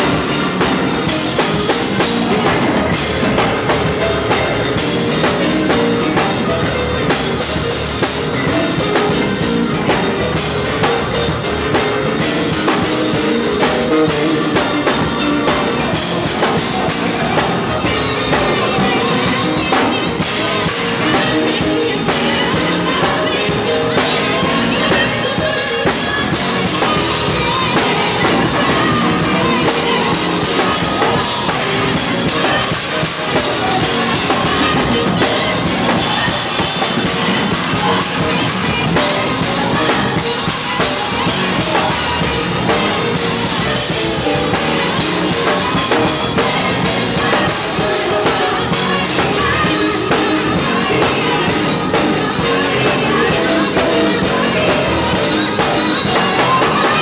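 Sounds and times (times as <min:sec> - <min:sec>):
bass and organ: 0:00.0 - 0:57.0
drum kit with heavy cymbals: 0:00.0 - 0:57.0.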